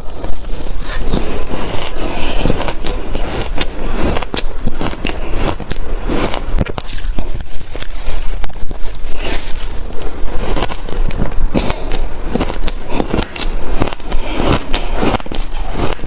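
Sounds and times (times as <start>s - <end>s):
shaved ice crunching: 0.0s - 16.0s.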